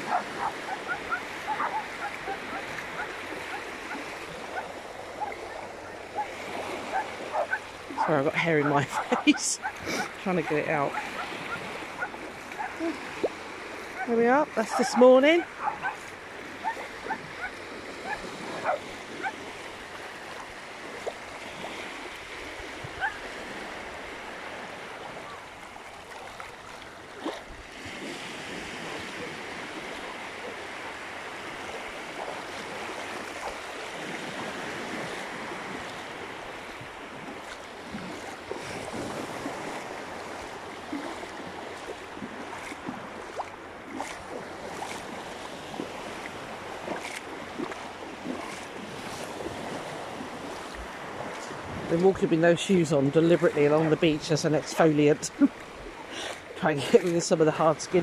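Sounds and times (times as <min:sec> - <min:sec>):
feet splashing through water: 0:00.0 - 0:52.1, 0:52.9 - 0:57.3
small waves lapping on sand: 0:00.0 - 0:58.0.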